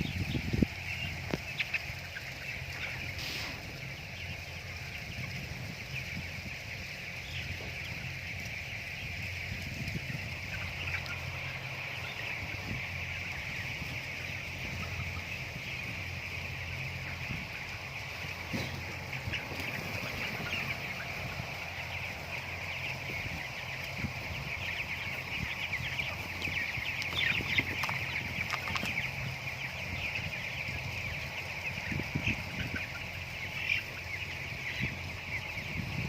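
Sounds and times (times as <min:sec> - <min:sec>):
chickens chirping: 0:00.0 - 0:36.0.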